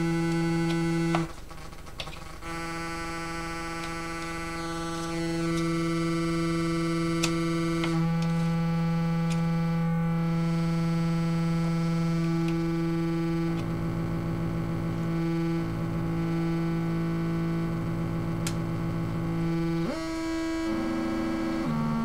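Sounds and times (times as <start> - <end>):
low pulsing synth layer: 0.0 - 1.3, 2.4 - 22.0
buzzy synthesizer drone: 0.0 - 22.0.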